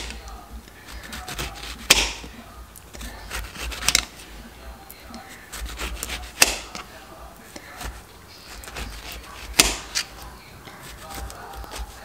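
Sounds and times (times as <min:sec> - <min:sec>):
knife slicing orange peel: 0:00.0 - 0:02.3, 0:02.9 - 0:04.2, 0:05.2 - 0:06.9, 0:07.5 - 0:12.0.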